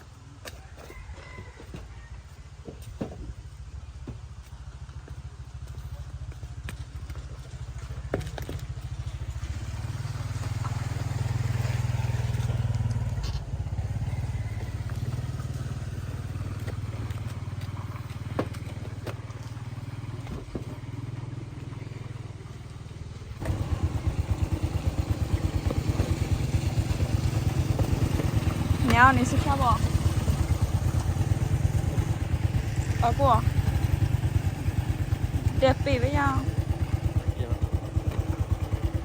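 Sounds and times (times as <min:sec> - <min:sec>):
small engine running: 0:03.1 - 0:39.0.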